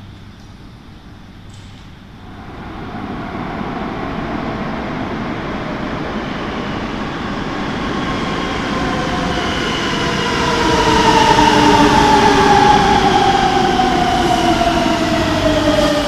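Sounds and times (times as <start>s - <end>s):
multi-tone train whine: 0.0s - 16.0s
train rumbling in tunnel: 0.0s - 16.0s.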